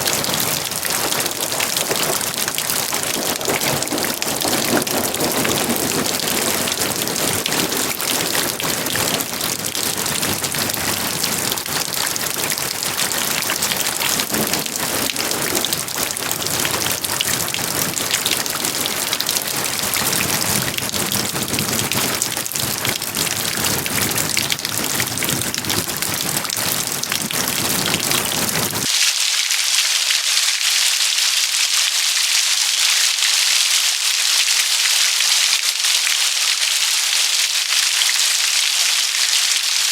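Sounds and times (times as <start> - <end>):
hissy rain shower: 0.0 - 39.9
steady rain patter: 0.0 - 39.9.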